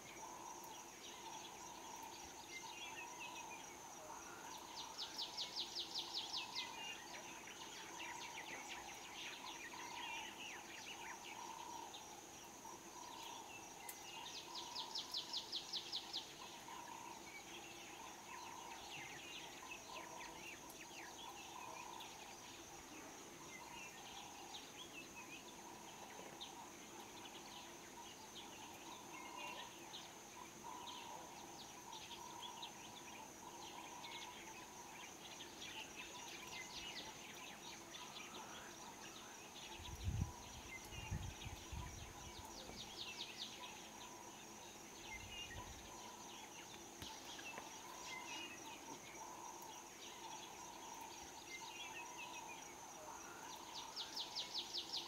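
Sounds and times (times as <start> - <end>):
insect buzz: 0.0 - 55.0.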